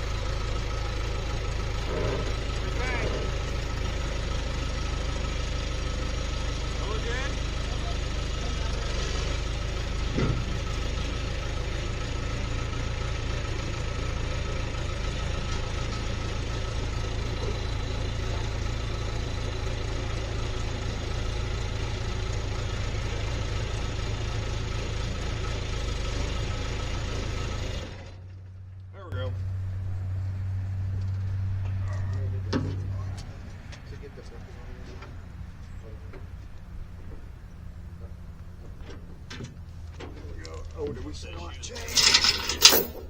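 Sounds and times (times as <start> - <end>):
skid steer engine running: 0.0 - 43.0.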